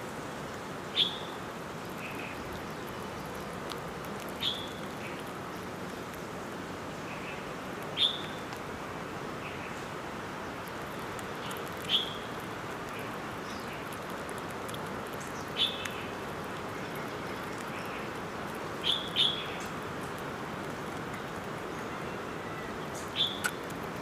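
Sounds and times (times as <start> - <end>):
steady outdoor hiss: 0.0 - 24.0.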